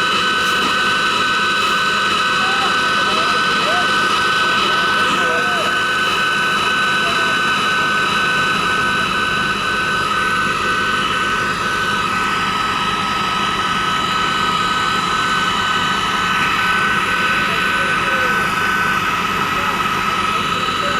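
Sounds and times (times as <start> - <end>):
high whining tones: 0.0 - 20.9
machinery noise: 0.0 - 20.9.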